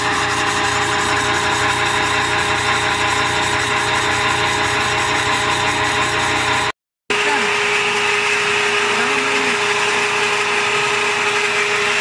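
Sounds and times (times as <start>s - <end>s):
pellet machine humming and whining: 0.0s - 12.0s.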